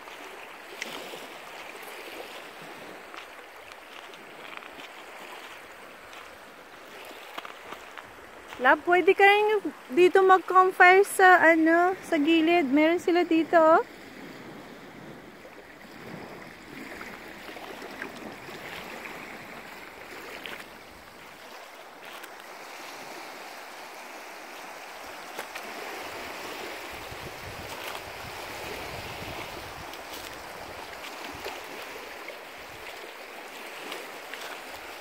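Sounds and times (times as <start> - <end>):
small waves lapping on pebbles: 0.0 - 35.0.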